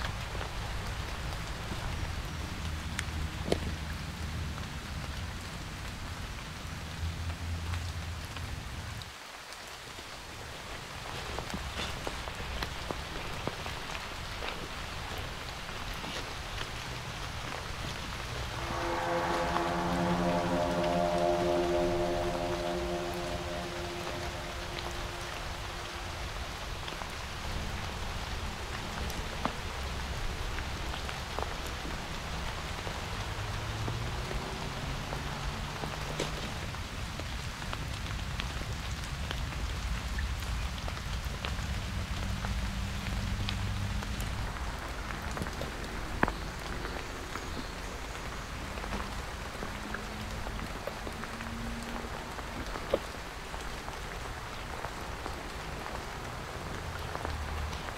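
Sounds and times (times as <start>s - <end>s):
rain pattering hiss: 0.0s - 57.9s.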